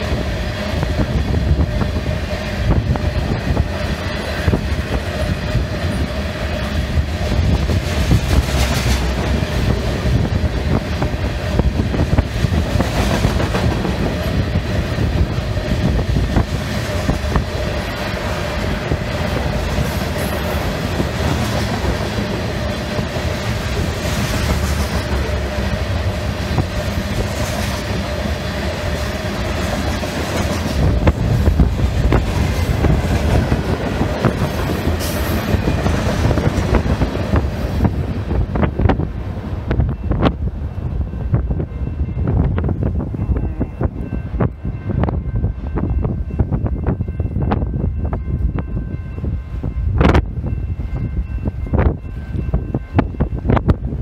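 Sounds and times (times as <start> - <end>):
freight train cars rolling past: 0.0 - 54.0
wind buffeting microphone: 0.0 - 54.0.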